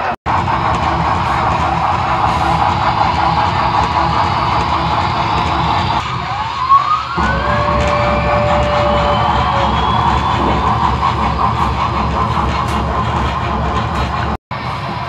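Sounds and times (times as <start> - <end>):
model train wheels rumbling: 0.3 - 6.0, 7.2 - 15.0
steady tone: 0.3 - 15.0
rising tone: 1.9 - 14.4.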